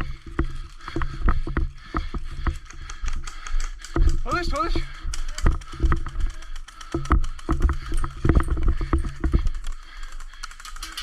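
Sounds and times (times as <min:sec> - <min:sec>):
airsoft guns firing rapid clicks: 0:00.1 - 0:11.0.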